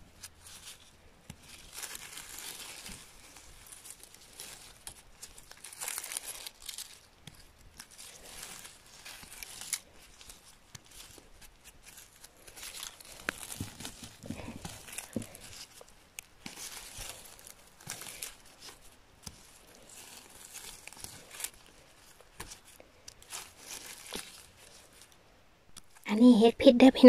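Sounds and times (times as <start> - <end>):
rustling and crackling in moss: 0.0 - 27.0.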